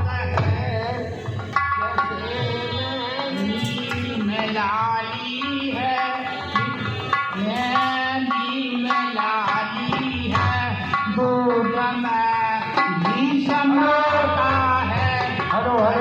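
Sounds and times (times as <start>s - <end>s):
tabla playing a steady rhythm: 0.0s - 16.0s.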